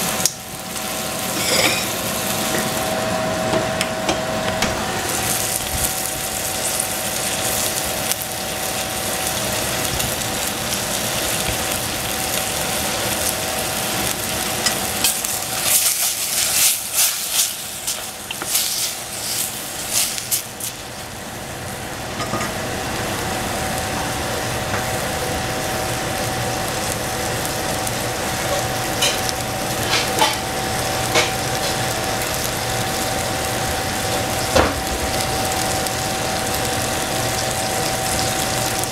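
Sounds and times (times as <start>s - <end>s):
mushrooms sizzling in a saucepan: 0.0s - 3.1s, 4.8s - 38.9s.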